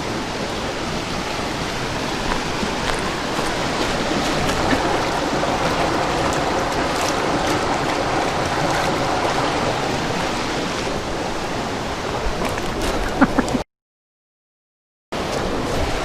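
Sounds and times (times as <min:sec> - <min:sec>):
water rushing over rocks: 0:00.0 - 0:13.6, 0:15.2 - 0:16.0.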